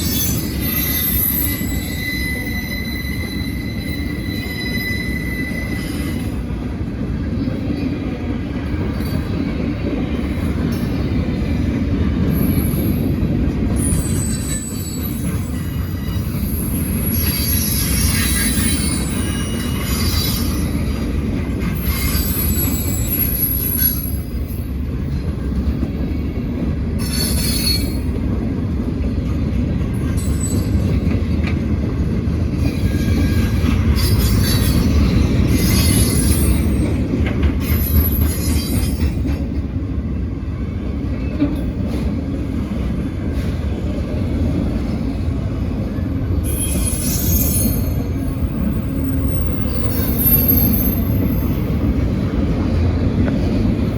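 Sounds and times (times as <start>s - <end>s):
freight train cars rumbling: 0.0s - 53.9s
train wheel squeal: 0.0s - 53.9s.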